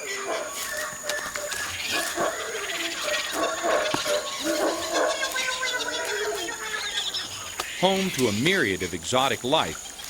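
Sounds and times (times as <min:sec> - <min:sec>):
animal calls and chirps: 0:00.0 - 0:10.0.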